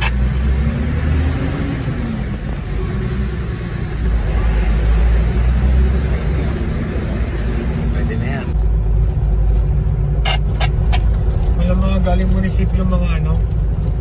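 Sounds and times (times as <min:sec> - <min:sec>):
vehicle engine and tyre rumble: 0:00.0 - 0:14.0.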